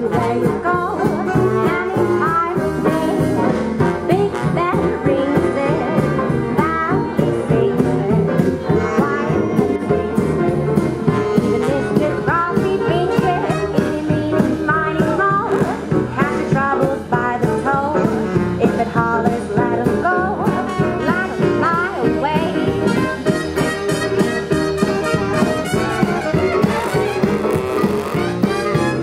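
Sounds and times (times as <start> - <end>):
woman singing: 0.0 - 23.3
drum kit beat: 0.0 - 29.0
piano: 0.0 - 29.0.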